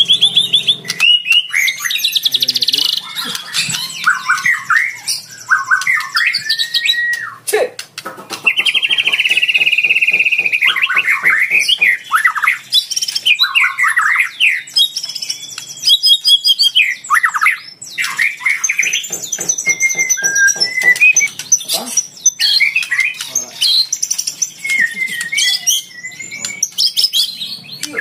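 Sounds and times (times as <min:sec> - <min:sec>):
songbird singing varied song: 0:00.0 - 0:07.4, 0:08.4 - 0:28.0.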